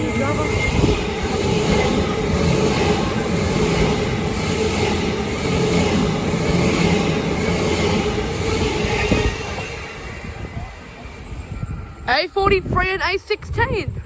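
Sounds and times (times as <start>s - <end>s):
electric train passing: 0.0s - 14.0s.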